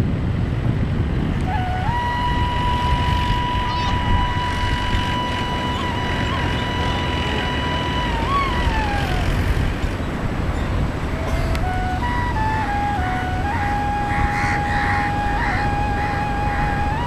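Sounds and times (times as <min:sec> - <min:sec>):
instrumental music: 0:01.4 - 0:17.0.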